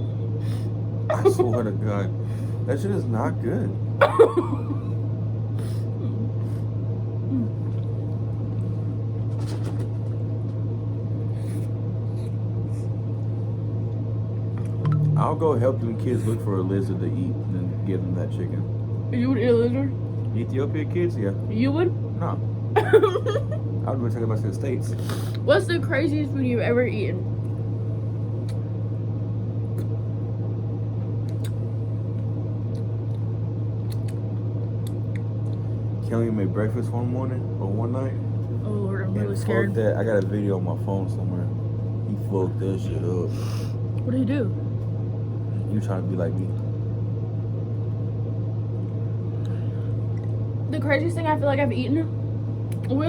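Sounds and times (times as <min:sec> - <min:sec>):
loud steady low hum: 0:00.0 - 0:53.0.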